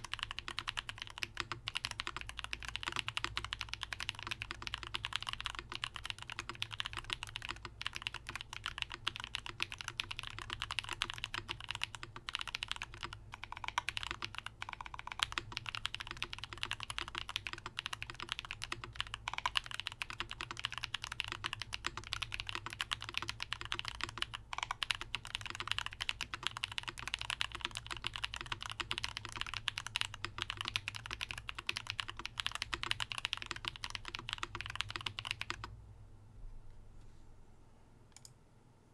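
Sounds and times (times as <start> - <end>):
mechanical keyboard typing: 0.0 - 35.7.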